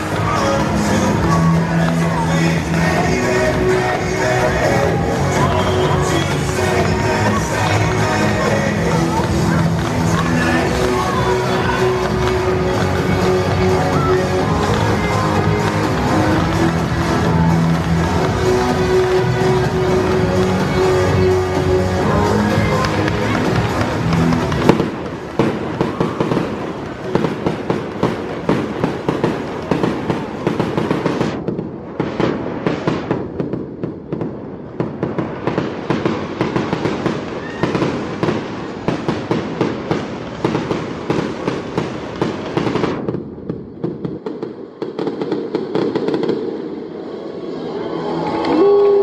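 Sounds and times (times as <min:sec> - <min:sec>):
fireworks bangs and crackling pops: 0:00.0 - 0:47.3.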